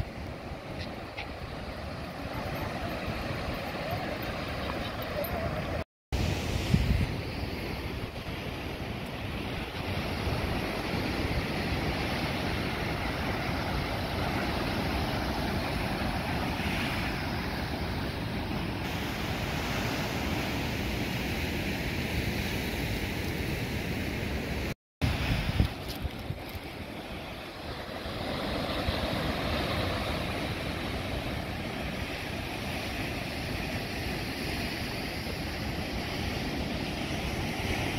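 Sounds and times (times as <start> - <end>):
wind on microphone: 0.0 - 18.1, 18.8 - 37.9
ocean surf breaking on rocks: 0.0 - 37.9.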